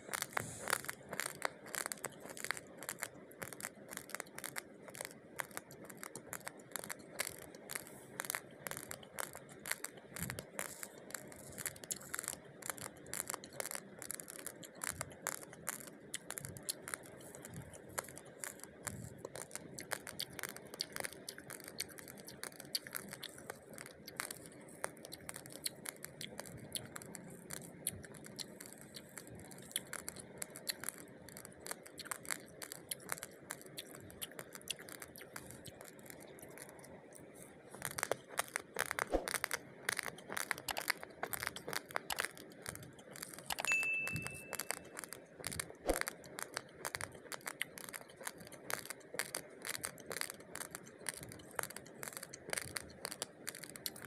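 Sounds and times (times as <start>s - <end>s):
rice grains clicking: 0.0s - 54.0s.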